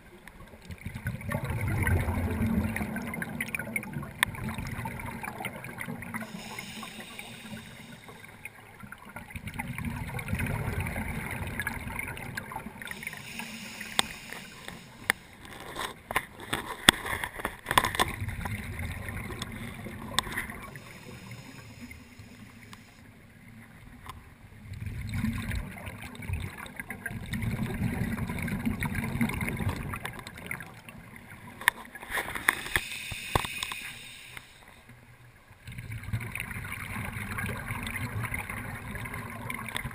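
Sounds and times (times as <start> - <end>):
underwater regulator bubbles gurgling: 0.0 - 39.9.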